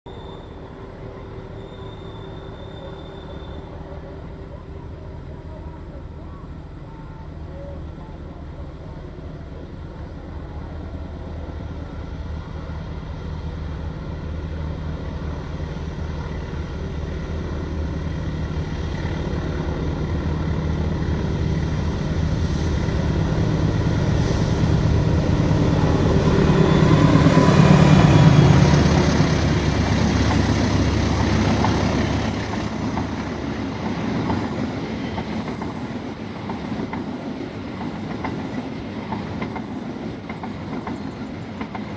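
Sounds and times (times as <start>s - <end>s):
locomotive engine hum: 0.1s - 41.9s
train coaches clacking on rails: 6.7s - 41.9s.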